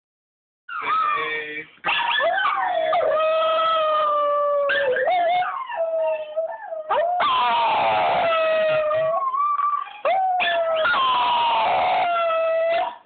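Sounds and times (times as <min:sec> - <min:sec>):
small dog howling: 0:00.7 - 0:13.0.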